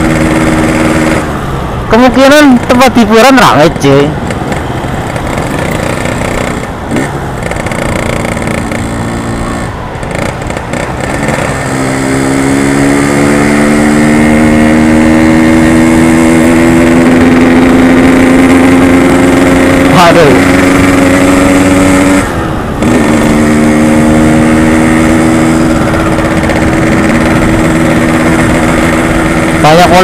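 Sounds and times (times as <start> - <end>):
two-stroke motorcycle engine: 0.0 - 30.0.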